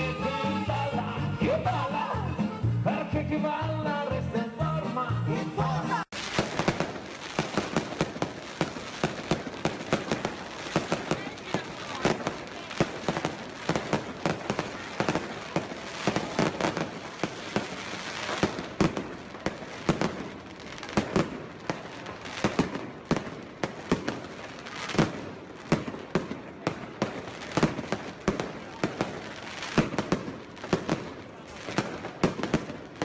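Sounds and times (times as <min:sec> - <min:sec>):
crackling firework stars: 0:06.0 - 0:33.0.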